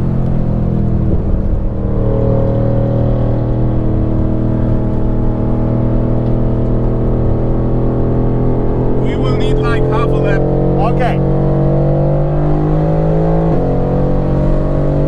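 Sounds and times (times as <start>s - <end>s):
car engine at moderate revs: 0.0s - 9.0s, 10.4s - 15.0s.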